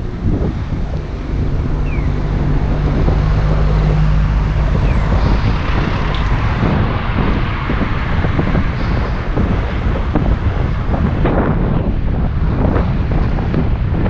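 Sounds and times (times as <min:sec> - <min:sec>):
low hum: 0:00.0 - 0:14.0
wind on microphone: 0:00.0 - 0:14.0.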